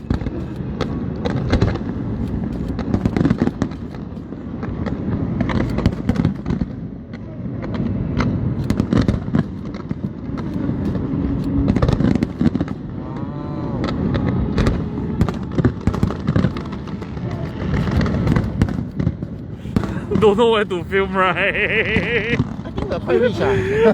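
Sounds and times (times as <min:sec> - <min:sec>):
fireworks bangs and crackles: 0:00.0 - 0:13.0, 0:13.8 - 0:23.9.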